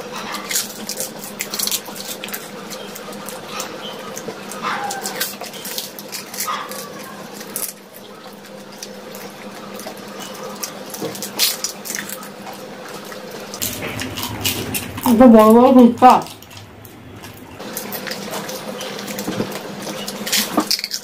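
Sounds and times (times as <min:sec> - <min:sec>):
wet squishy chewing: 0:00.4 - 0:15.2, 0:16.2 - 0:21.0.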